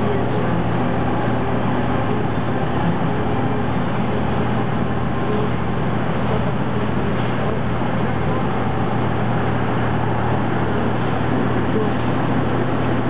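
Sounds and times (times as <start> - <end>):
constant low hum: 0.0 - 13.0
vehicle engine and road noise: 0.0 - 13.0.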